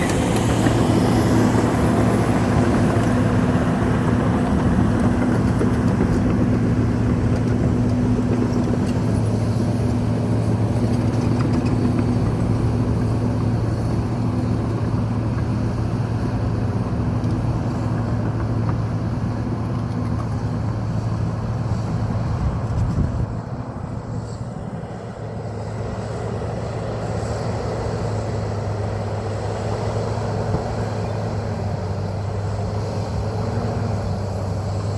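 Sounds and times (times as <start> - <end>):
bulldozer engine running: 0.0 - 34.9.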